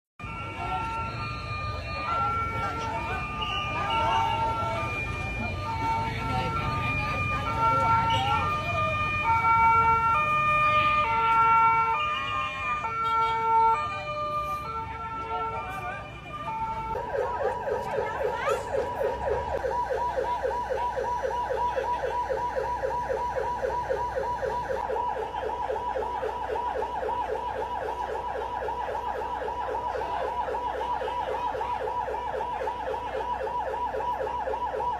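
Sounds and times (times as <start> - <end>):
emergency siren yelping: 0.2 - 34.9
rising siren sweep: 0.2 - 34.9.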